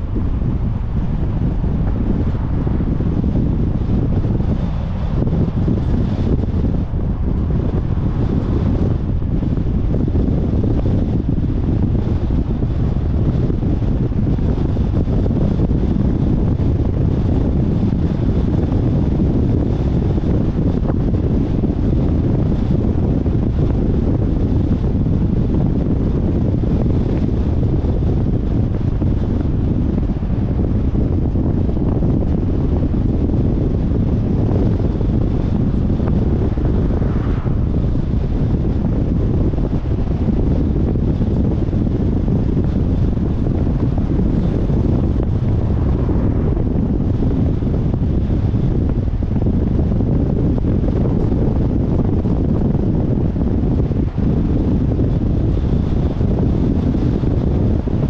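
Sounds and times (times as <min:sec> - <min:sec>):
road and vehicle noise: 0:00.0 - 0:58.0
wind rumble on microphone: 0:00.0 - 0:58.0.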